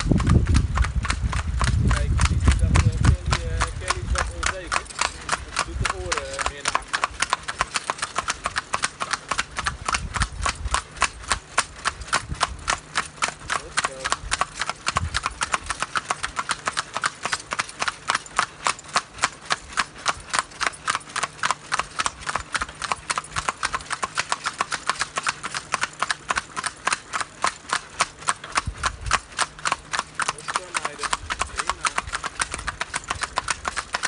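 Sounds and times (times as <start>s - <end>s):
horse hooves clip-clopping on asphalt: 0.0s - 34.0s.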